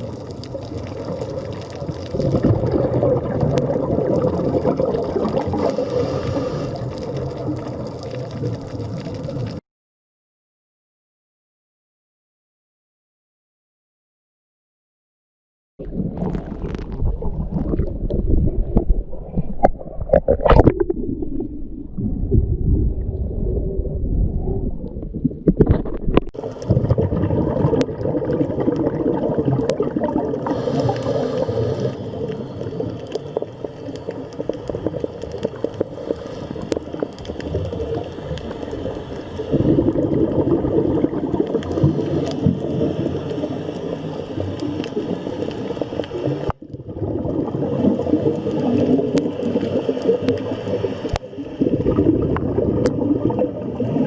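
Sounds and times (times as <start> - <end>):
fizzy underwater crackling: 0.0 - 9.6, 15.8 - 54.0
underwater rumbling wash: 0.0 - 9.6, 15.8 - 54.0.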